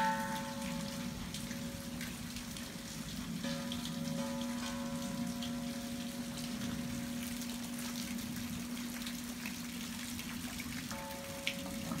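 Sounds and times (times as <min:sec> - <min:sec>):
rain pattering on foliage: 0:00.0 - 0:12.0.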